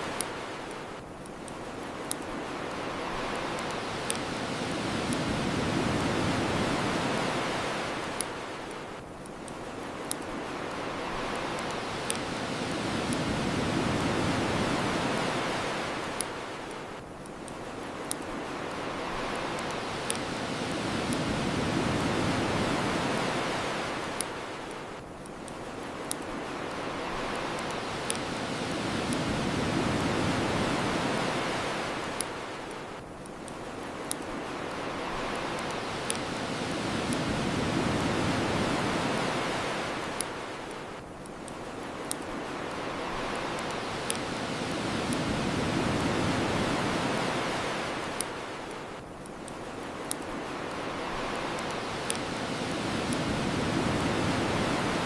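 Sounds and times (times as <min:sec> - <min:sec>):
bonfire crackling pops: 0:00.0 - 0:55.0
ocean surf washing on shore: 0:00.0 - 0:55.0.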